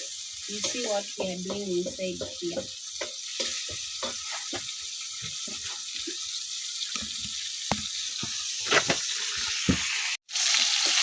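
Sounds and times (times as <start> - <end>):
tomatoes sizzling in a pot: 0.0 - 11.0.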